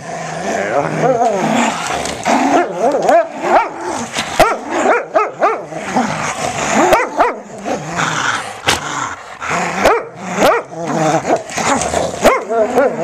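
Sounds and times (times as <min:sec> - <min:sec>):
dogs growling: 0:00.0 - 0:13.0.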